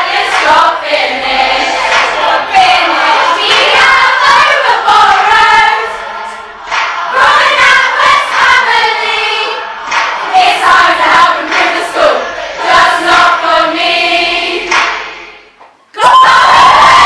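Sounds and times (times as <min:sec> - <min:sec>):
choir of girls singing: 0:00.0 - 0:15.6.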